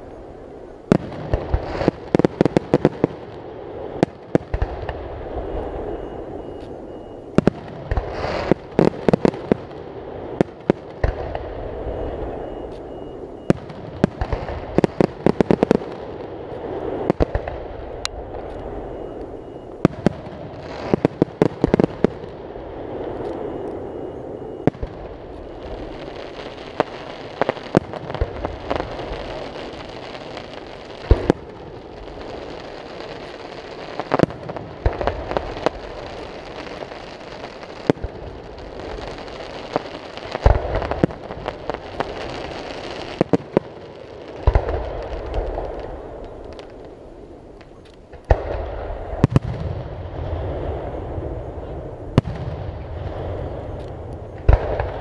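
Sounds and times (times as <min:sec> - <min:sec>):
steady background noise: 0:00.0 - 0:55.0.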